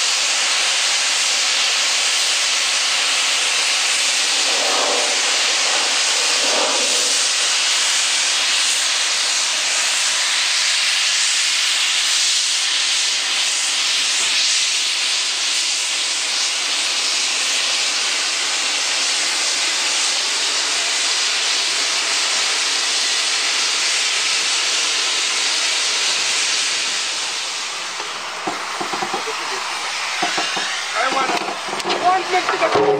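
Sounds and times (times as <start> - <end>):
steam locomotive hissing: 0.0 - 32.9.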